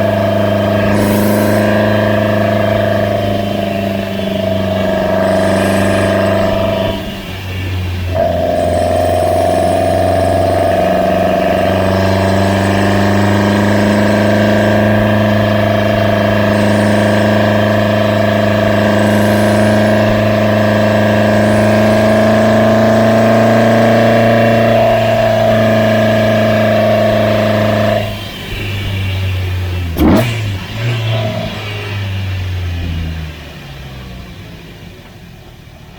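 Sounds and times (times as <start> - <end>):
engine droning steadily: 0.0 - 35.9.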